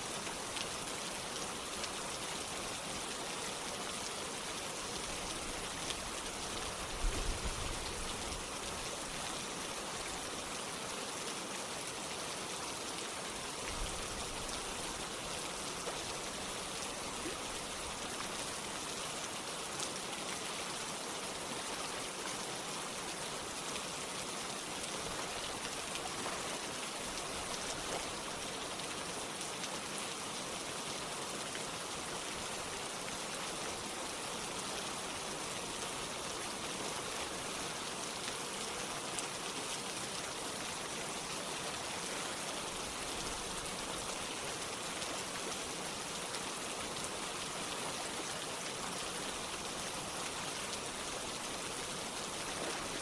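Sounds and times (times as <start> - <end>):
running water: 0.0 - 53.0
steady rain: 0.0 - 53.0.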